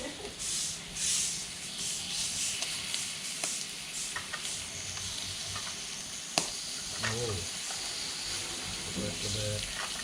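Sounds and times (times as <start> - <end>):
meat sizzling on grill pan: 0.1 - 10.0.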